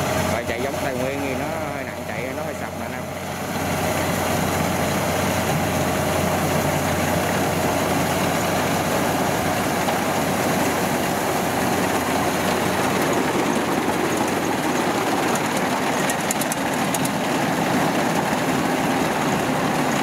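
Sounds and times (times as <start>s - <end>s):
combine harvester droning: 0.0s - 20.0s.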